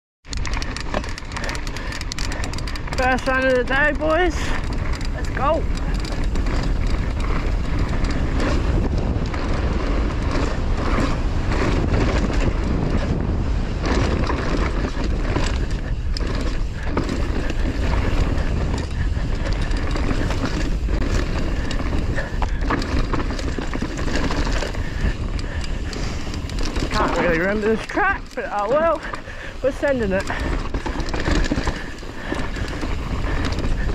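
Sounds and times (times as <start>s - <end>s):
bike rattling over bumps: 0.2s - 33.9s
bike tyres rolling on dirt: 0.2s - 33.9s
wind rumble on microphone: 0.3s - 33.9s.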